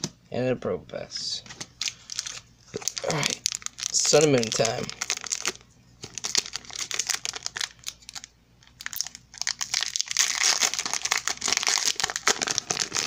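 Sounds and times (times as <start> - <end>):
foil wrapper crinkling: 1.6 - 13.0.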